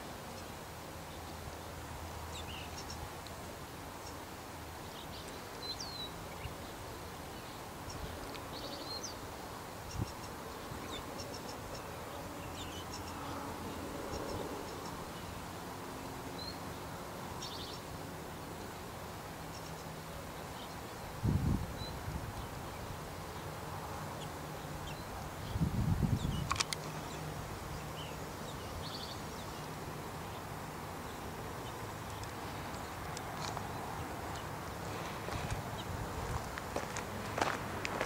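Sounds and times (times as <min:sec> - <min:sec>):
outdoor background hiss: 0:00.0 - 0:38.0
small birds chirping: 0:00.2 - 0:17.9, 0:18.5 - 0:37.6.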